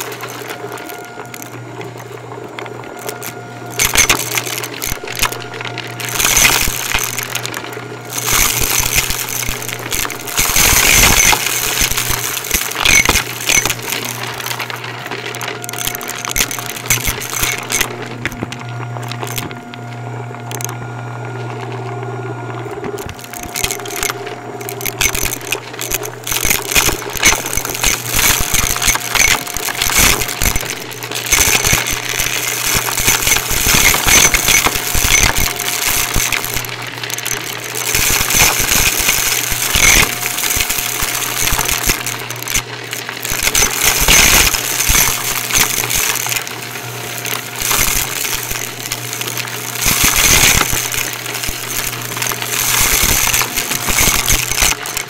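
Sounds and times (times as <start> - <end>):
debris crackling through vacuum: 0.0 - 55.0
vacuum cleaner motor hum: 0.0 - 55.0.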